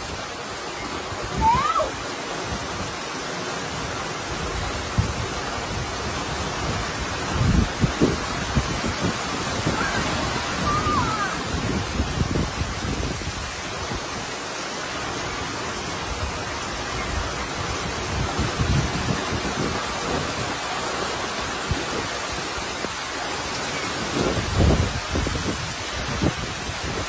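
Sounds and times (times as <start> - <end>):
heavy rain pouring: 0.0 - 27.0
wind buffeting microphone: 3.6 - 14.4, 15.2 - 27.0.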